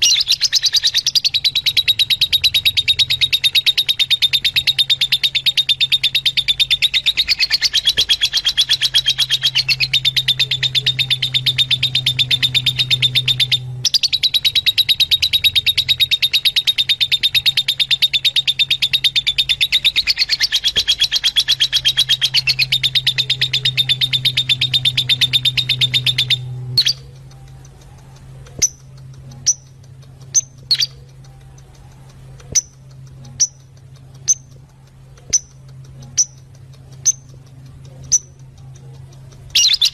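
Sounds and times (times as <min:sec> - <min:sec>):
lovebirds chattering: 0:00.0 - 0:39.9.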